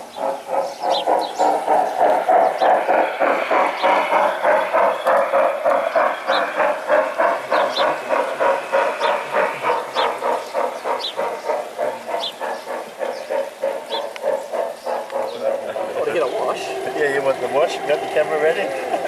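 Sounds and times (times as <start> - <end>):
model train rhythmic beat: 0.0 - 19.0.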